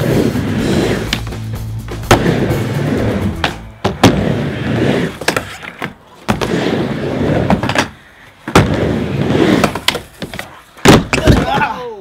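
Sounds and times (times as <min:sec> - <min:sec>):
skateboard wheels rolling on wood: 0:00.0 - 0:11.8.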